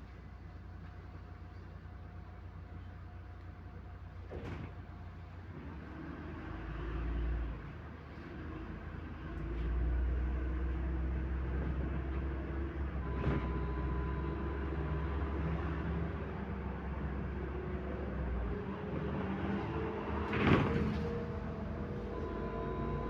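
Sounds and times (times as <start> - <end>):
bus engine rumble: 0.0 - 23.0.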